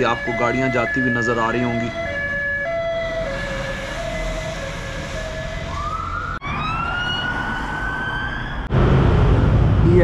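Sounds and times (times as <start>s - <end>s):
emergency siren: 0.0s - 8.7s.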